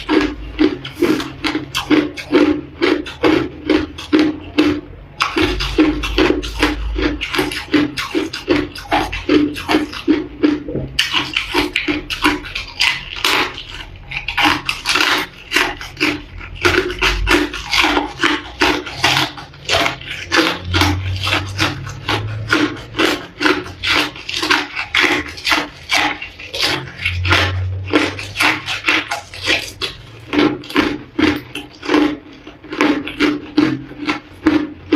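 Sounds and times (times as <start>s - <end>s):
ice being chewed: 0.0s - 34.9s.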